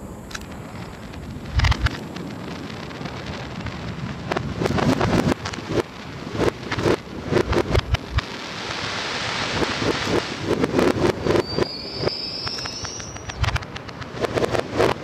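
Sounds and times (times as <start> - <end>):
reversed firework bursts: 0.0 - 15.0.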